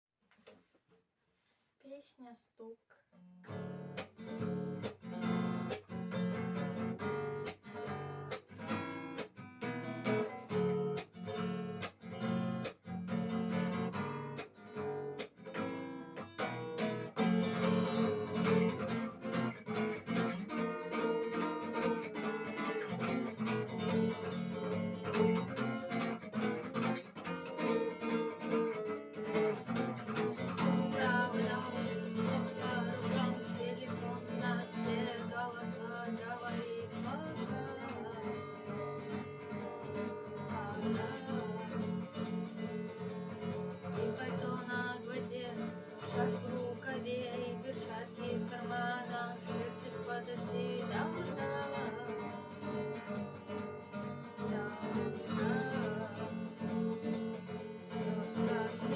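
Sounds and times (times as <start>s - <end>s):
acoustic guitar strumming: 3.4s - 58.9s.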